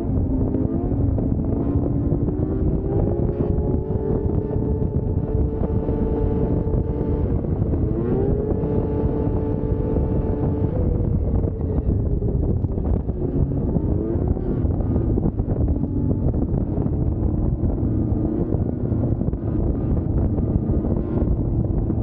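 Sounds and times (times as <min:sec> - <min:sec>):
snowmobile engine running: 0:00.0 - 0:22.0
wind rumbling on microphone: 0:00.0 - 0:22.0.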